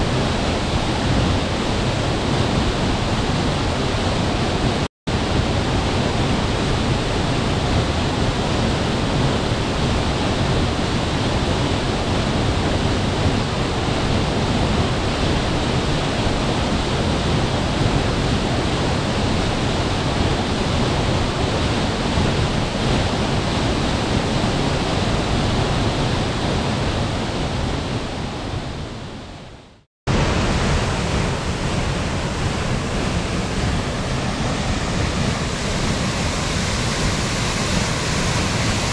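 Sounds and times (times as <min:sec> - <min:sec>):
waterfall roaring: 0:00.0 - 0:29.5, 0:30.1 - 0:38.9.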